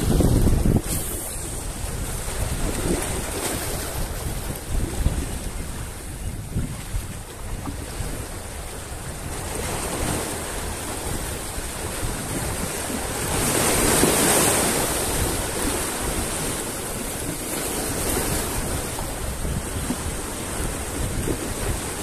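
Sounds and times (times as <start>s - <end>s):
sea waves breaking on rocks: 0.0s - 22.0s
wind buffeting microphone: 0.0s - 22.0s.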